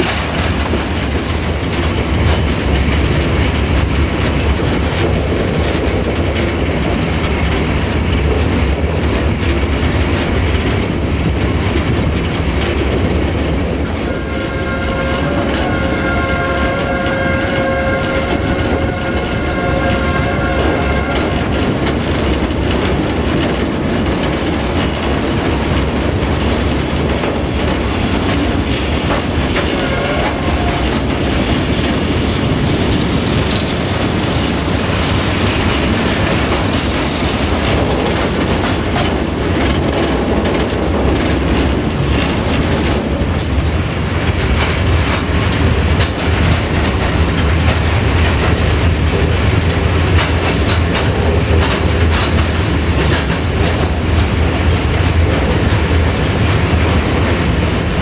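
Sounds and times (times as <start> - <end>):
clicking over rail joints: 0.0 - 58.0
train wheels rumbling and rattling: 0.0 - 58.0.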